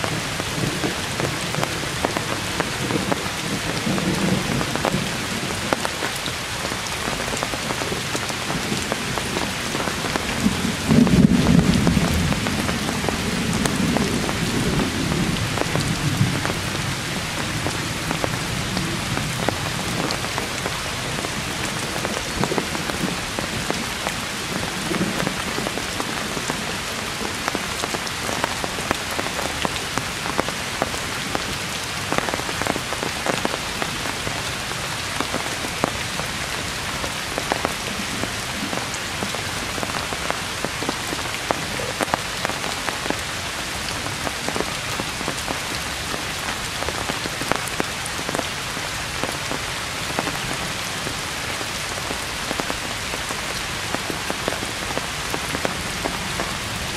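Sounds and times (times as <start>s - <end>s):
heavy rain on foliage: 0.0s - 56.9s.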